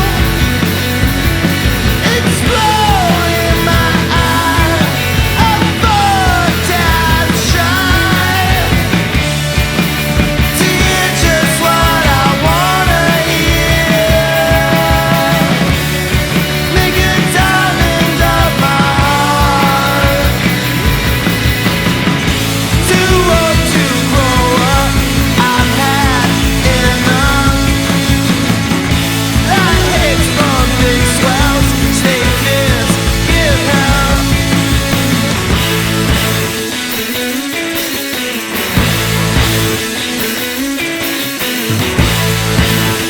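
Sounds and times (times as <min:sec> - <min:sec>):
rock band music: 0:00.0 - 0:43.0.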